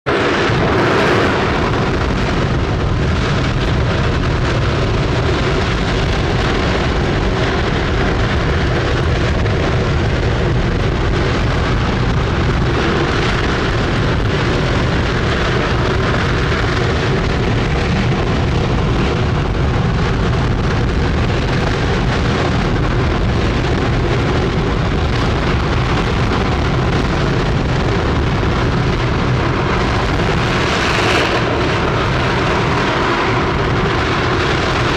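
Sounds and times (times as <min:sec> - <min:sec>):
rocket engine roaring: 0:00.0 - 0:34.9.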